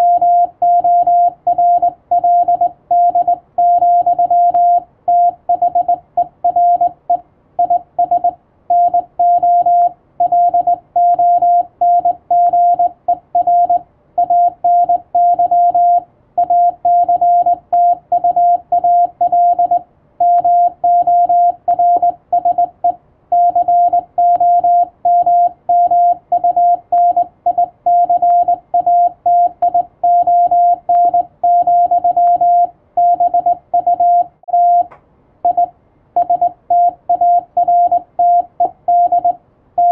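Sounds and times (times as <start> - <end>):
morse code tone: 0.0 - 7.0, 7.6 - 39.9.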